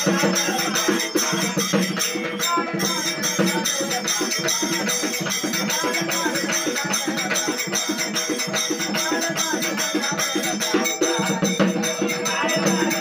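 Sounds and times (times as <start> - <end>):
jingling rattling percussion: 0.0 - 13.0
voices singing a chant: 0.0 - 13.0.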